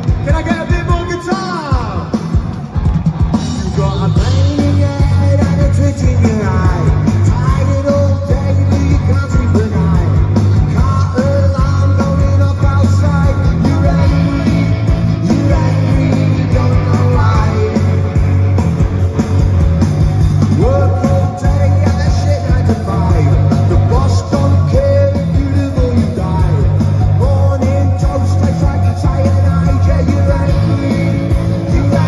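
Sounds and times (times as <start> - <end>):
bass guitar: 0.0 - 32.0
drums: 0.0 - 32.0
electric guitars: 0.0 - 32.0
sung vocals: 3.4 - 18.8, 20.4 - 32.0.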